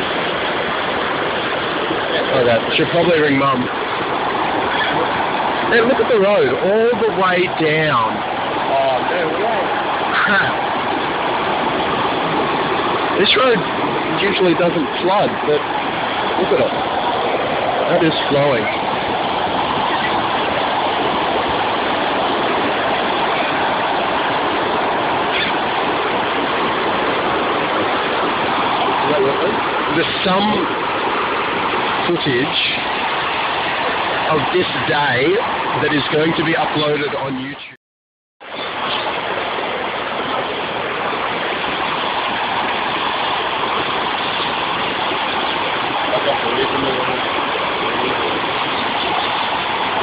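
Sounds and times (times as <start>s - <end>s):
floodwater rushing: 0.0s - 37.8s, 38.4s - 50.0s.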